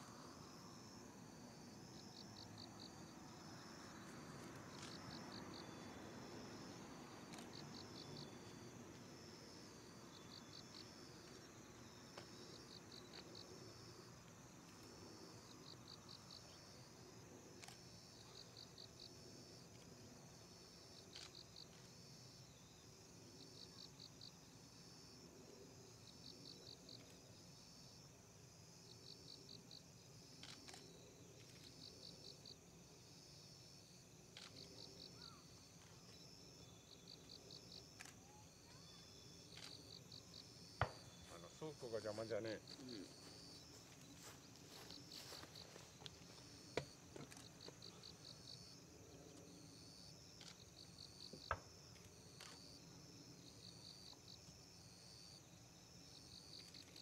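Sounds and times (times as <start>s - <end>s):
insects trilling faintly: 0.0s - 57.0s.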